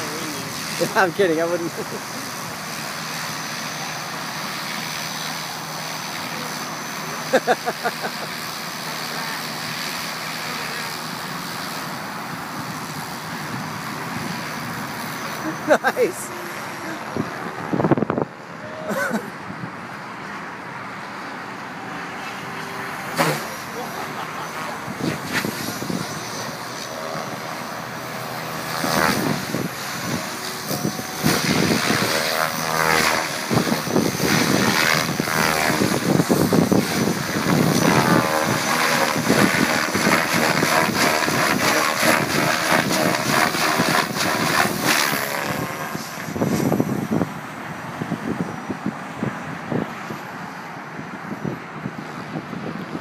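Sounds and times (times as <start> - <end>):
model helicopter rotor whirring: 0.0 - 18.6, 21.6 - 47.4.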